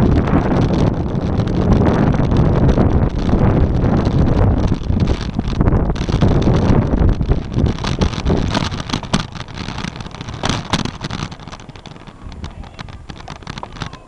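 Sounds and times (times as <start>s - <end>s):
bicycle rattling over asphalt: 0.0s - 14.0s
wind buffeting microphone: 0.0s - 14.0s.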